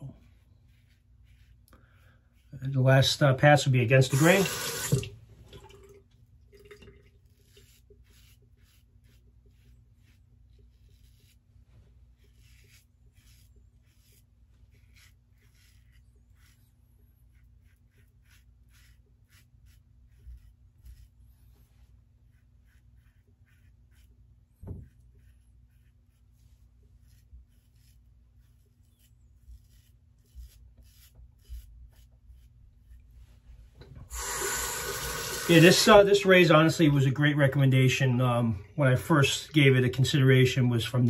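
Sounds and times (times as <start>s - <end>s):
razor scratching stubble: 0.0s - 5.1s, 7.0s - 37.8s.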